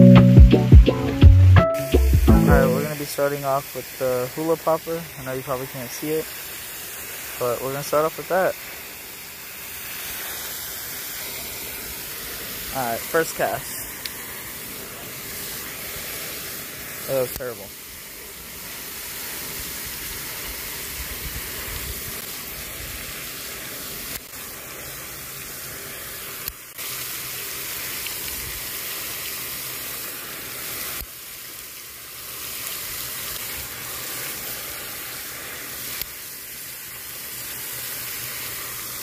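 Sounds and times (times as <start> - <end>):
fountain spray hissing: 1.8 - 39.0.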